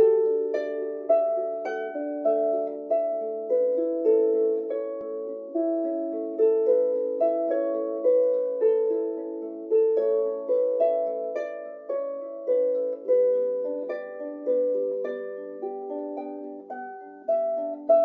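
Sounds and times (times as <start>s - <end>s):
plucked string instrument: 0.0s - 18.0s.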